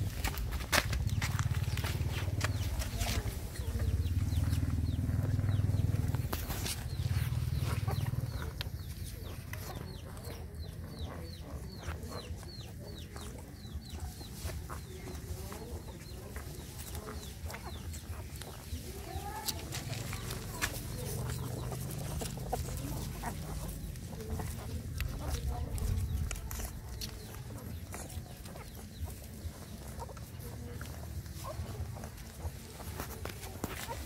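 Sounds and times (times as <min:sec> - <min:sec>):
chickens clucking: 0:00.0 - 0:34.0
chicks peeping: 0:00.0 - 0:34.0.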